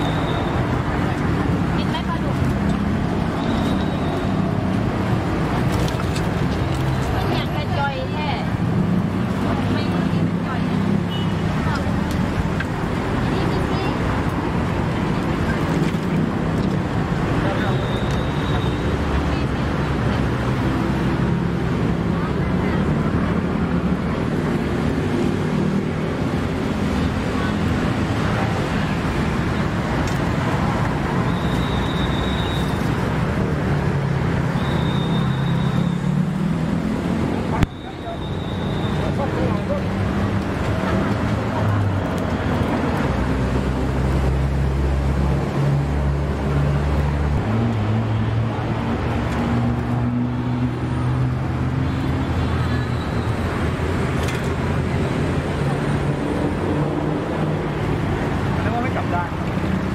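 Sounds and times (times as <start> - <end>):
open-air market noise: 0.0 - 59.9
street noise: 0.0 - 59.9.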